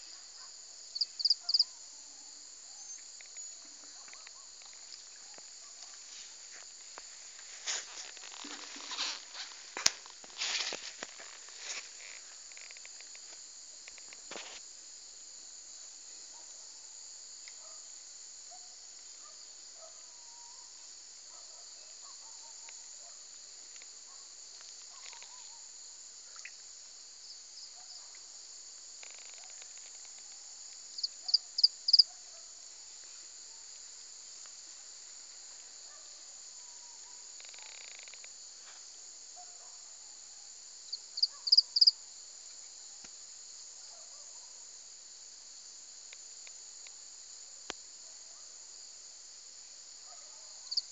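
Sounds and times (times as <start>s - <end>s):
chorus of crickets: 0.0s - 50.9s
faint low insect calls: 0.0s - 50.9s.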